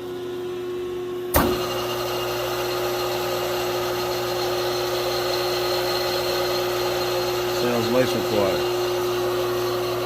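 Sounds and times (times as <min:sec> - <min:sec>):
phase converter humming: 0:00.0 - 0:10.0
electric motor humming: 0:01.6 - 0:10.0.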